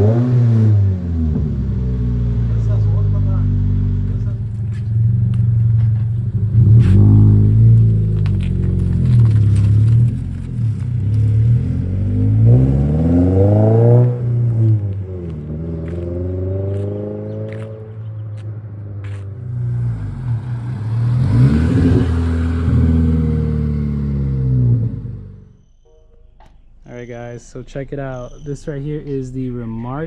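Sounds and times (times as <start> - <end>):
car engine idling and revving: 0.0 - 25.8.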